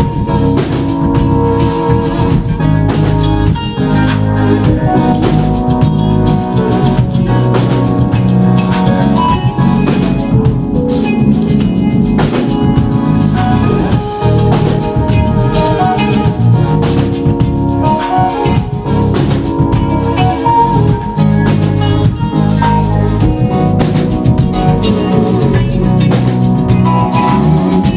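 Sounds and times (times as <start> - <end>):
drum kit: 0.0 - 27.9
electric guitar: 0.0 - 27.9
keyboard chords and melody: 0.0 - 27.9.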